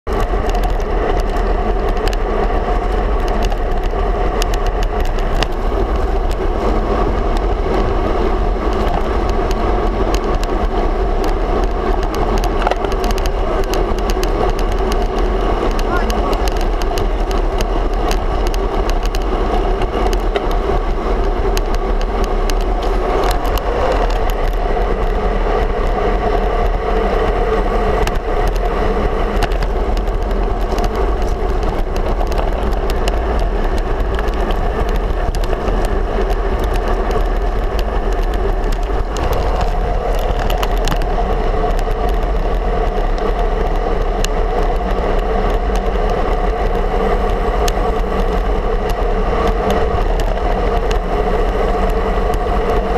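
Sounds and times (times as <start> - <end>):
bicycle tyre road rumble: 0.0 - 52.9
wind buffeting microphone: 0.0 - 52.9.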